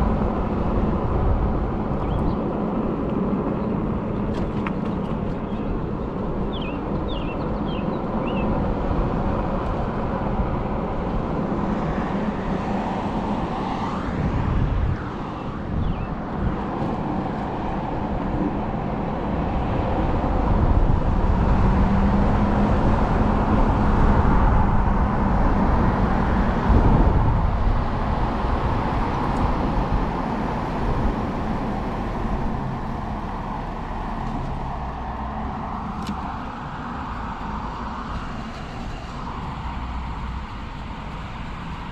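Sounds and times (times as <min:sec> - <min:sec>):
wind rumble on microphone: 0:00.0 - 0:41.9.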